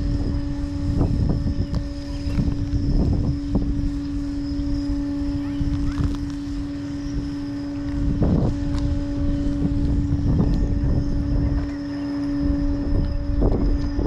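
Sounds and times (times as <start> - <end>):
steady mechanical hum: 0.0 - 14.0
wind buffeting microphone: 0.0 - 14.0.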